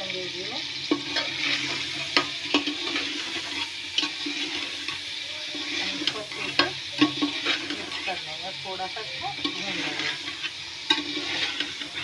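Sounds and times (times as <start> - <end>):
chicken sizzling in hot oil: 0.0 - 12.0
steel spoon knocking and scraping pot: 0.8 - 8.2, 9.2 - 12.0.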